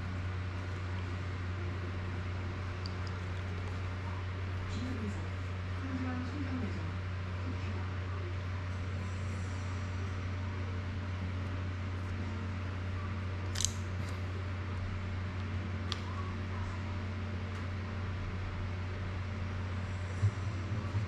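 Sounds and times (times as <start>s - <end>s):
fan-like room hum and hiss: 0.0s - 21.0s.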